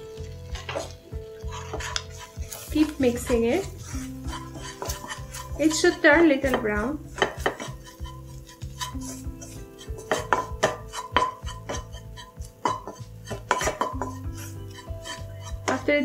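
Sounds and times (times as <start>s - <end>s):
wooden spoon scraping pan: 0.2s - 16.0s.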